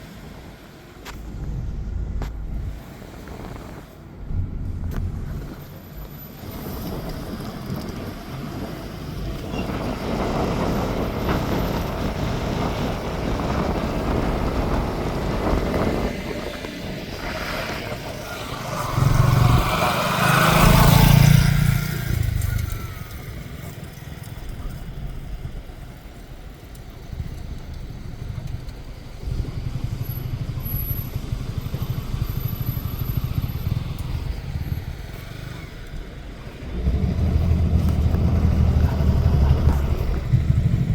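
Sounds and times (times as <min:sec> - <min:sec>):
vehicles passing: 0:00.0 - 0:40.9.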